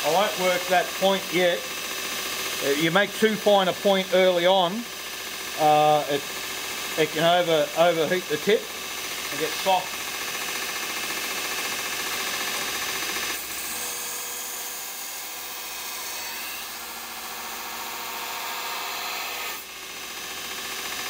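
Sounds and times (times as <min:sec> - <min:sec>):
belt grinder grinding steel: 0:00.0 - 0:21.0.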